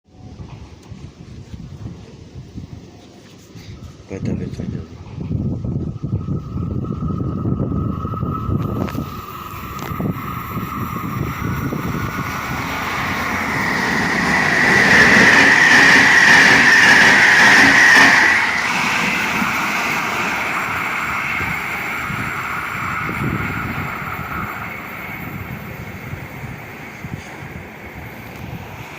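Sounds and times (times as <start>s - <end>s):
passenger train passing: 0.1s - 28.9s.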